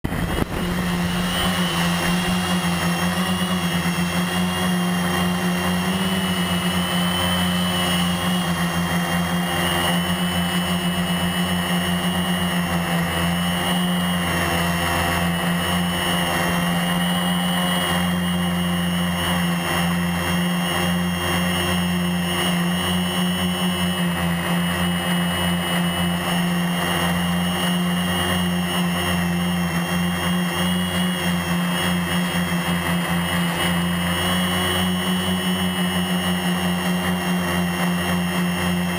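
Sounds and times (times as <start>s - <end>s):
quadcopter motors buzzing: 0.1s - 38.9s.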